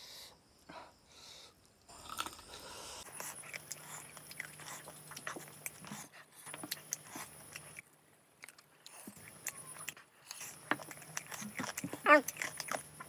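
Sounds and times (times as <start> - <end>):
close chewing with mouth clicks: 1.9 - 13.0.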